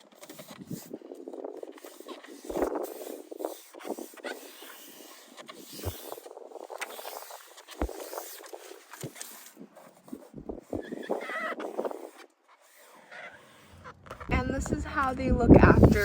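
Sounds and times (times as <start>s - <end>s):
rustling and scraping: 0.0s - 16.0s.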